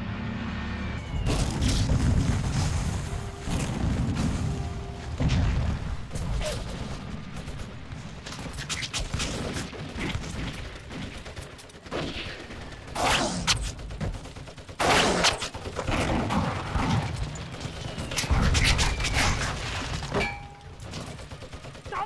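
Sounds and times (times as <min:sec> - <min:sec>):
rifles and machine guns firing: 0:01.2 - 0:22.0.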